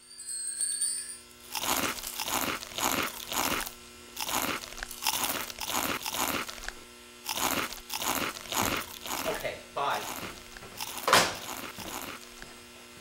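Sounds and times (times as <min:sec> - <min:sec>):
crunchy chewing of food: 0:01.4 - 0:12.8.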